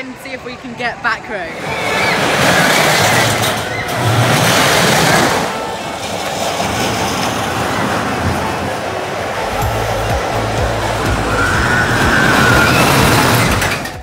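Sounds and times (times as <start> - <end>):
roller coaster rushing on track: 0.2 - 14.0.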